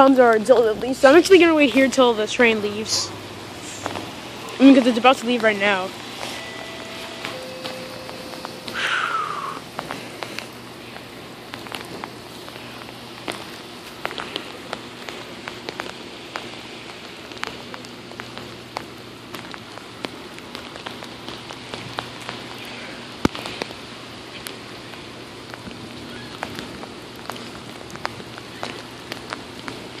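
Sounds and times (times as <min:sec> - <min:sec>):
heavy rain falling: 0:00.0 - 0:30.0
raindrops tapping near microphone: 0:00.0 - 0:30.0.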